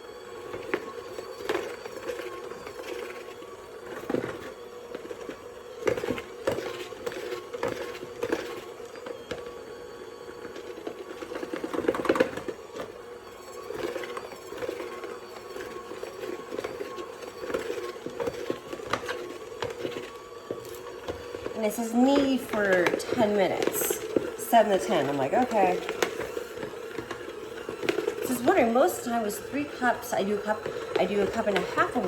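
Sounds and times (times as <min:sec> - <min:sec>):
utensil scraping mixing bowl: 0:00.4 - 0:09.6, 0:10.3 - 0:32.0.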